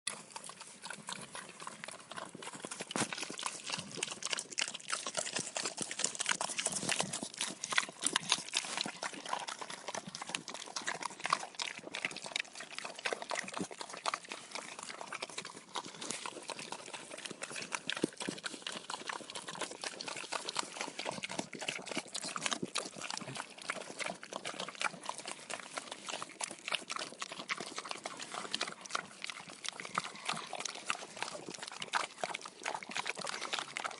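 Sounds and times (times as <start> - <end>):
pigs chewing and slurping: 0.1 - 33.9.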